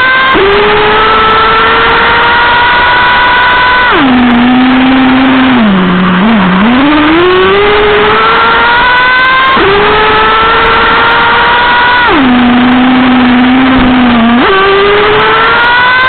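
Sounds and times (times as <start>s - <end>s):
nitro engine revving: 0.0s - 16.0s.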